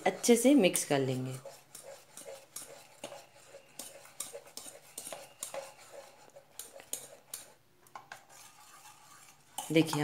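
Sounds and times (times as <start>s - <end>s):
whisk clinking against metal bowl: 0.0s - 10.0s.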